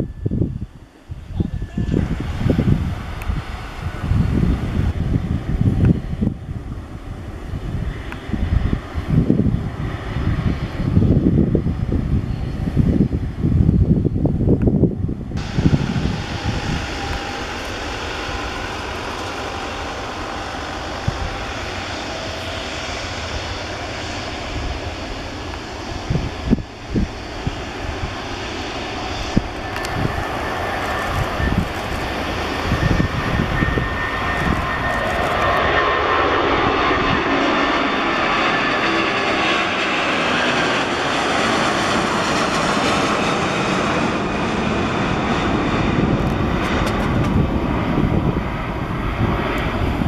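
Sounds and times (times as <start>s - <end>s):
jet airliner passing: 0.0s - 50.0s
wind buffeting microphone: 0.0s - 50.0s.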